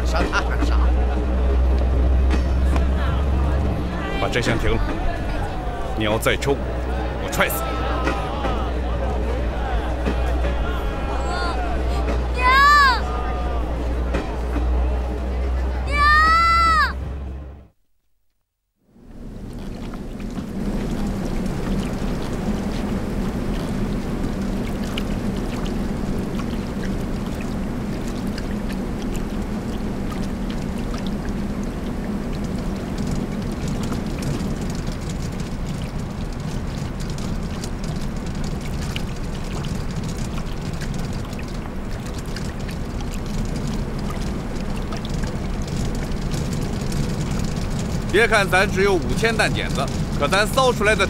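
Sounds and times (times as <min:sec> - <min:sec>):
machinery hum and rushing: 0:00.0 - 0:17.6, 0:19.0 - 0:51.0.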